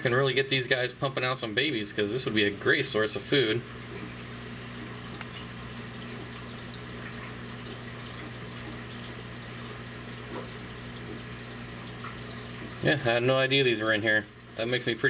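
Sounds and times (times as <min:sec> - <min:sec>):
aquarium water trickling: 0:00.0 - 0:15.0
pump low hum: 0:00.0 - 0:15.0.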